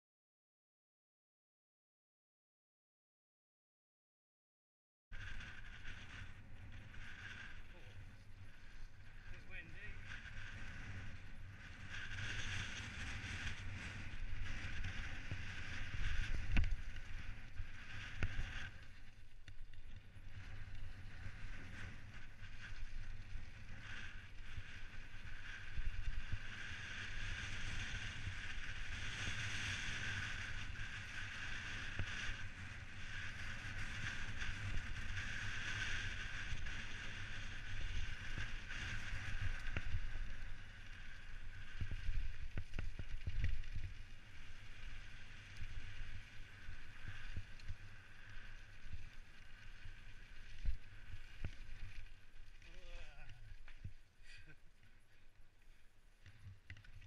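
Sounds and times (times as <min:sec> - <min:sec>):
wind rumbling on microphone: 0:05.1 - 0:57.0.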